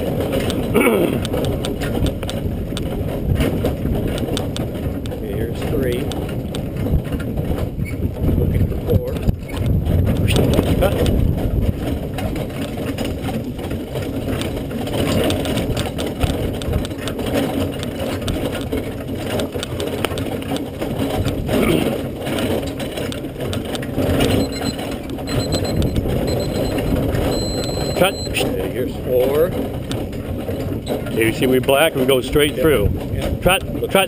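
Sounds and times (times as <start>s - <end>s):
carriage rattling: 0.0s - 34.0s
horse hoofbeats: 0.0s - 34.0s.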